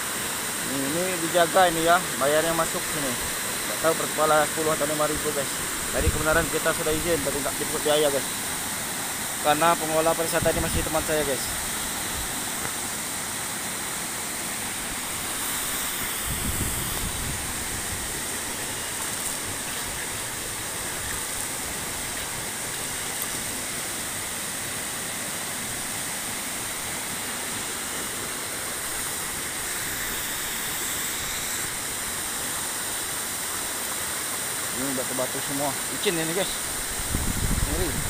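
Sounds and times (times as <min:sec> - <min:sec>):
waterfall rushing: 0:00.0 - 0:37.1.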